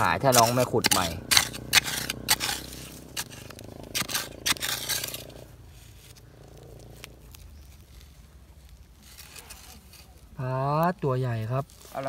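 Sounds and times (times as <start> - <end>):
metal tool digging dry soil: 0.0 - 12.0.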